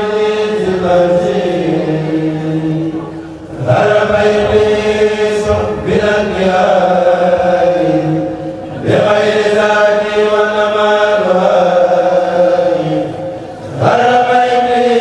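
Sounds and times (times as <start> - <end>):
group chanting unaccompanied: 0.0 - 15.0.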